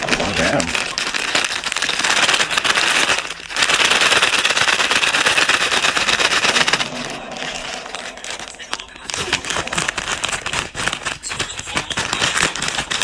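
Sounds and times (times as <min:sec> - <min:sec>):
chips breaking: 0:00.0 - 0:13.0
snack bag crackling and crinkling: 0:00.0 - 0:13.0.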